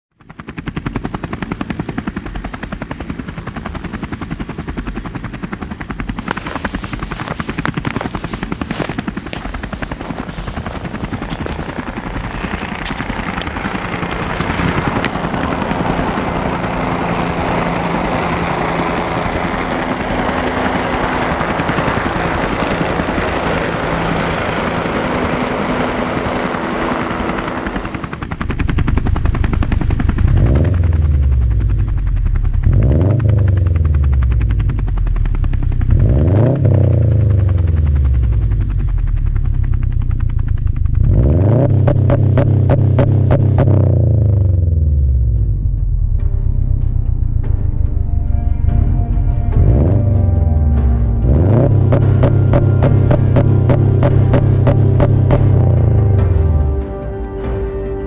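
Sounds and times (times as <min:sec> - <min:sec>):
car engine rumbling: 0:06.2 - 0:56.8.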